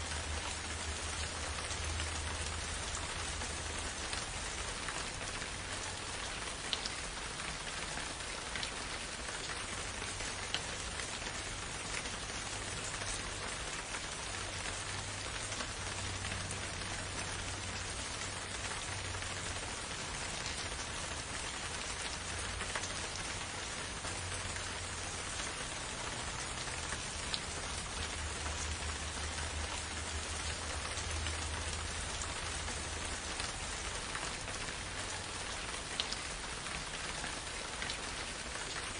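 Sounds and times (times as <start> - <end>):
raindrops ticking: 0.0 - 38.9
steady rain hiss: 0.0 - 38.9.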